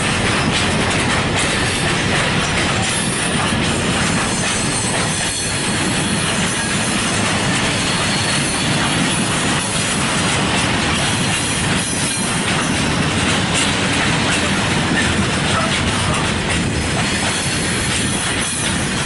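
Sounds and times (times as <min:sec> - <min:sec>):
freight wagons rumbling on rails: 0:00.0 - 0:19.0.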